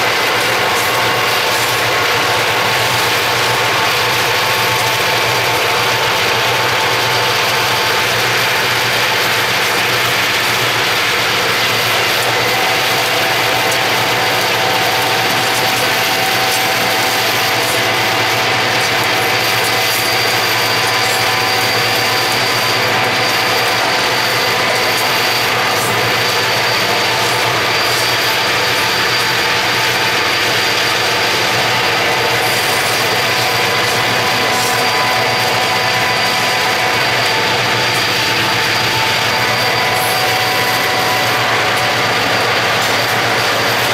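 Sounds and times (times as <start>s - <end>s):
constant whining tones: 0.0s - 43.9s
freight train noise: 0.0s - 43.9s.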